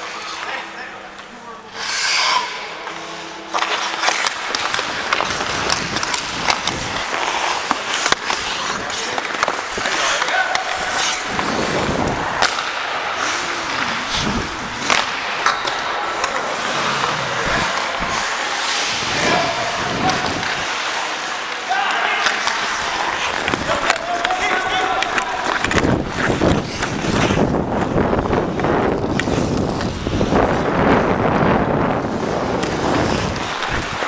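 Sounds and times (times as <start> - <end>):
hockey sticks clacking: 0.0 - 34.0
skates scraping on ice: 0.0 - 34.0.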